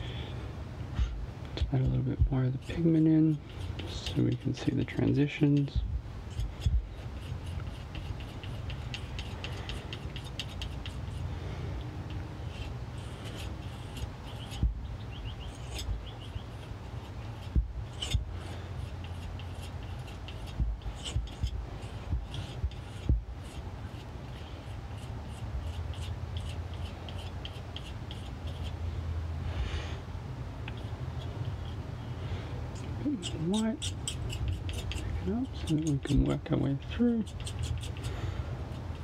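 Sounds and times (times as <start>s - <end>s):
low steady hum: 0.0s - 39.0s
palette knife scraping paint: 1.7s - 28.8s, 30.7s - 39.0s.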